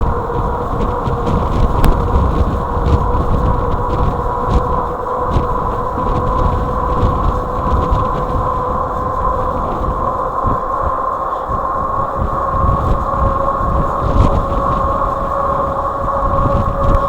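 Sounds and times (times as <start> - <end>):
electric motor whine: 0.0 - 17.0
wind on microphone: 0.0 - 17.0.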